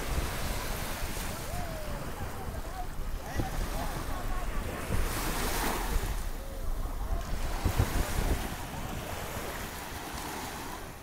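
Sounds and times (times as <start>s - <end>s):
waves breaking on shore: 0.0s - 11.0s
wind buffeting microphone: 0.0s - 11.0s.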